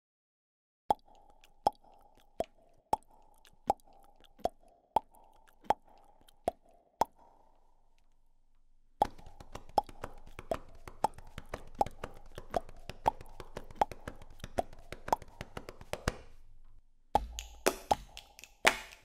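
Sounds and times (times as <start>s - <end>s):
sharp clicks and plops: 0.9s - 8.3s, 9.0s - 19.0s.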